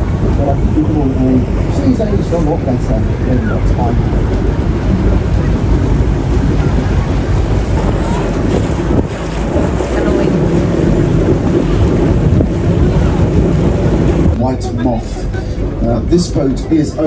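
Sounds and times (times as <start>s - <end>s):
boat engine running: 0.0s - 17.0s
water moving along boat: 0.0s - 17.0s
wind buffeting microphone: 0.0s - 17.0s.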